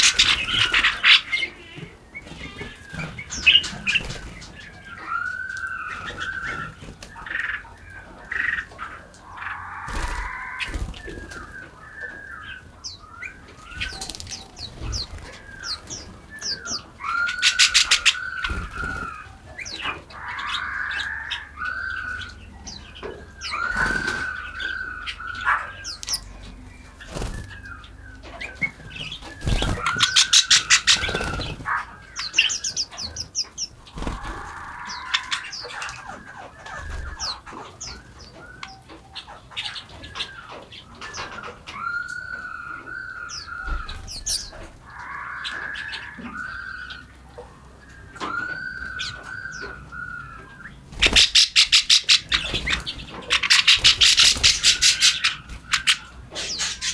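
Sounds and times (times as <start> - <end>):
birds calling and chirping: 0.0 - 56.9
birds chattering rapidly: 0.0 - 56.9.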